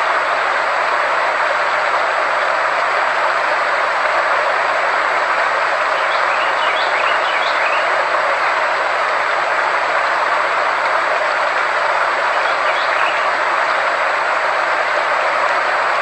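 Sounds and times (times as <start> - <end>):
steady hiss-like noise: 0.0 - 16.0.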